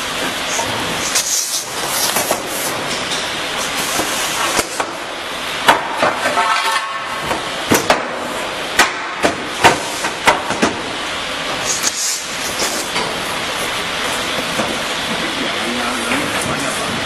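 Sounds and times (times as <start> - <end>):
workshop machinery hiss: 0.0 - 17.0.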